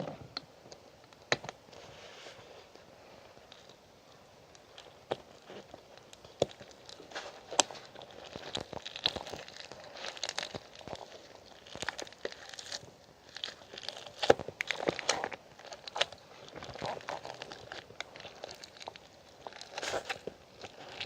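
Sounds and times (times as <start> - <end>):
crinkling and crunching handling: 0.0 - 21.0.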